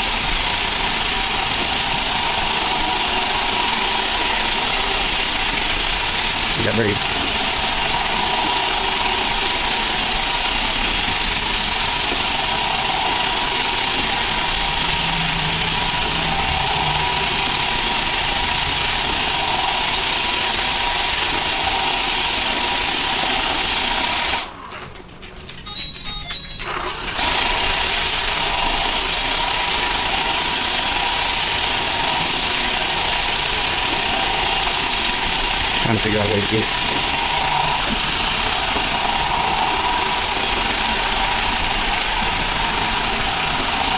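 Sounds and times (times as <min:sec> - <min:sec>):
robot vacuum humming: 0:00.0 - 0:24.6, 0:26.6 - 0:43.9.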